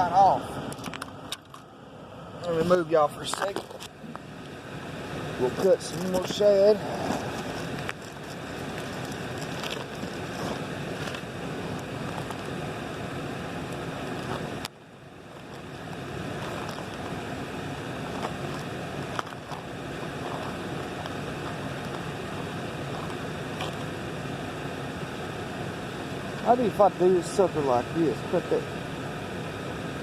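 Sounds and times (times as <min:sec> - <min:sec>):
wind: 0:00.0 - 0:30.0
rushing water: 0:02.8 - 0:30.0.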